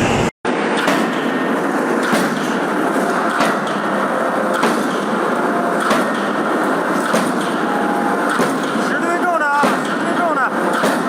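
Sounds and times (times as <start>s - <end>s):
sharp forging strikes: 0.0s - 9.0s, 9.6s - 11.0s
factory machine din: 0.0s - 11.0s.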